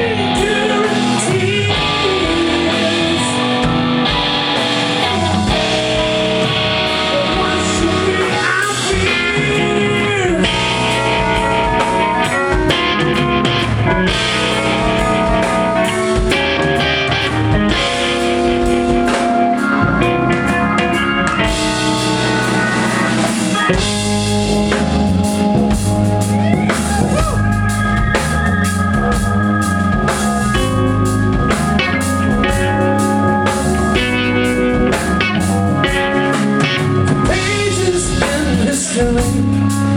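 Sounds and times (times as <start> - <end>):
bass guitar: 0.0 - 39.9
drum kit: 0.0 - 39.9
electric guitar lead with bent notes: 0.0 - 39.9.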